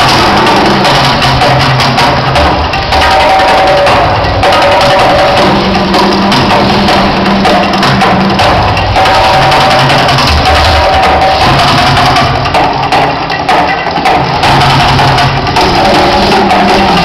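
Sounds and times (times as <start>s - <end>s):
drum-heavy music over speakers: 0.0s - 17.0s.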